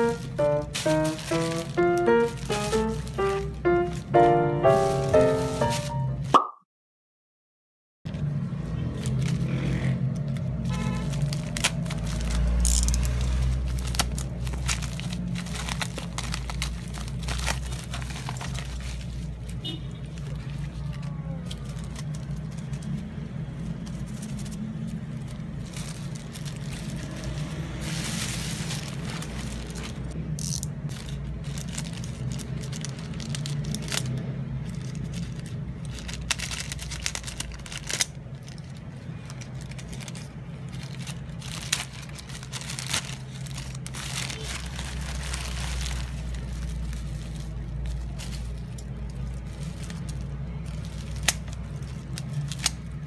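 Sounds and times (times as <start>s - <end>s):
plastic packaging crinkling: 0.0s - 6.3s, 8.2s - 53.0s.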